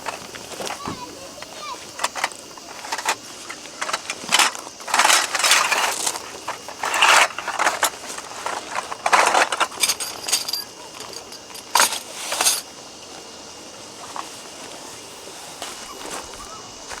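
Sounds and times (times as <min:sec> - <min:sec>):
camping gear rustling and clinking: 0:00.0 - 0:17.0.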